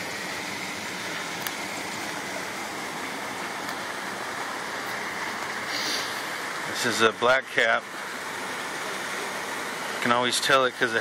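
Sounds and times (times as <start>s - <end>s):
creek running: 0.0s - 11.0s.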